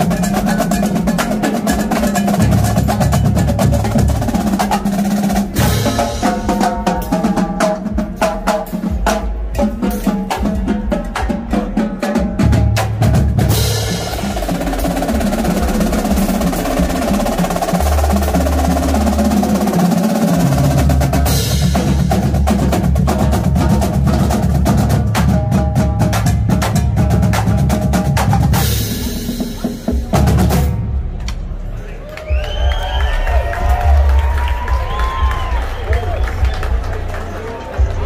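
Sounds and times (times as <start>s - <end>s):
snare drums: 0.0s - 31.6s
tenor drums: 0.0s - 31.8s
bass drums: 0.0s - 38.0s.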